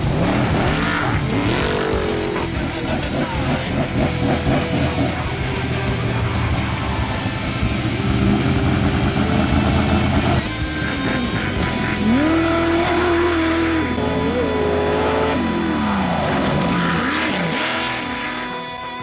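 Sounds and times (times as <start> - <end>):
music playing: 0.0 - 19.0
race vehicle engine revving: 0.0 - 19.0.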